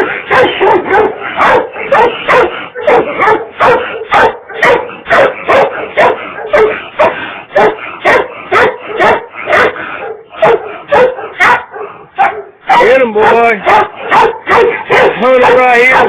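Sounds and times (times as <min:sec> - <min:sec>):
dog barking: 0:00.0 - 0:16.0.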